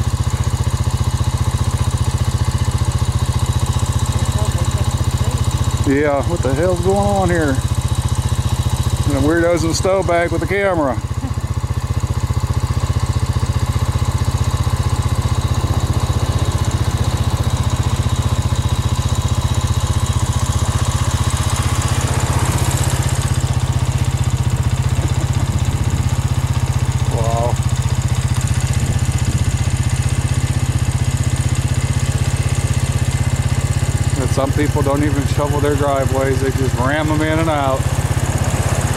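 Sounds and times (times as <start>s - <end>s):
low engine drone: 1.7s - 38.9s.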